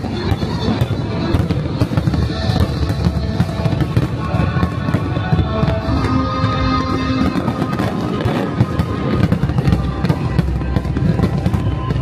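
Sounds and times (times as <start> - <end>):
fireworks bangs and pops: 0.0 - 12.0
loud music: 0.0 - 12.0.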